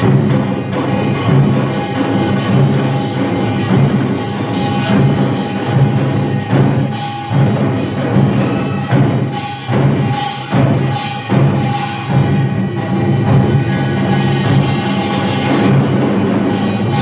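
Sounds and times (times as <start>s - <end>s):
percussion ensemble with gongs and drums: 0.0s - 17.0s.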